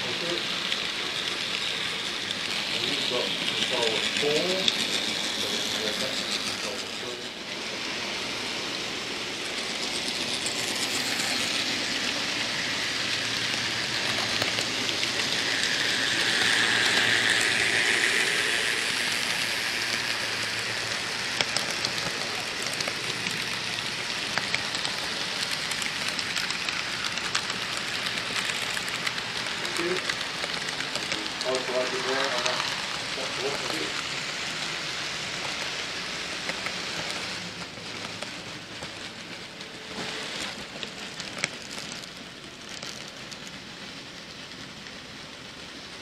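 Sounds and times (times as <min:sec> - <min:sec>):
model train rattling on rails: 0:00.0 - 0:46.0.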